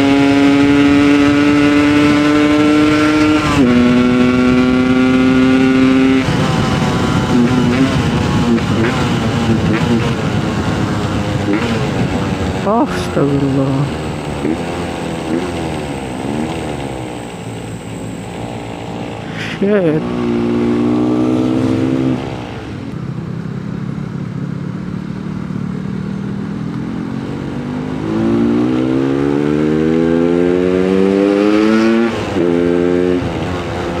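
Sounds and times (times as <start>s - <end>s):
two-stroke motorcycle engine revving: 0.0s - 22.7s, 26.4s - 34.0s.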